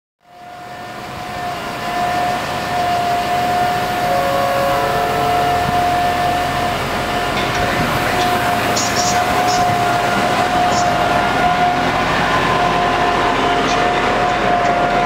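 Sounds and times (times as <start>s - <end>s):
train high whine: 0.3s - 15.0s.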